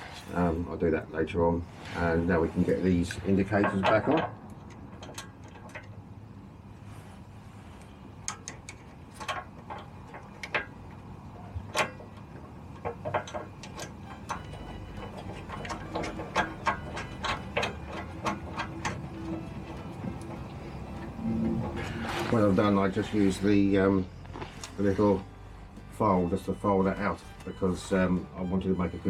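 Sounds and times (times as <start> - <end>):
hand tools clicking on metal: 3.0 - 6.0, 8.2 - 29.0.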